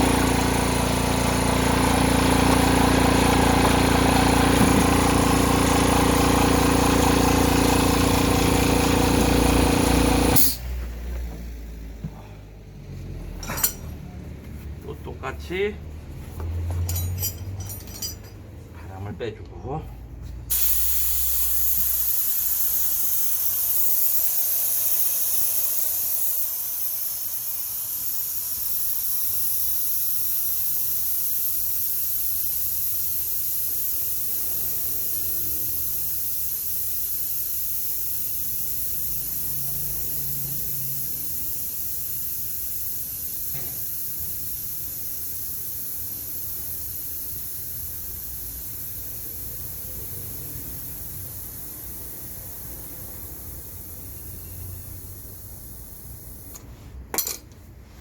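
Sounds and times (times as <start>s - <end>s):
air hissing out of tyre valve: 0.0s - 12.6s, 20.5s - 56.8s.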